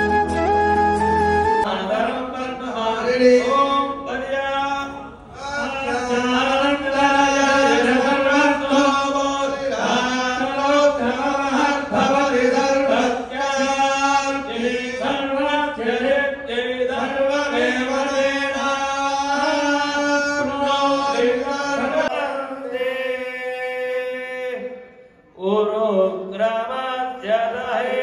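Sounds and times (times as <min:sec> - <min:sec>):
men chanting mantras: 0:01.6 - 0:28.0.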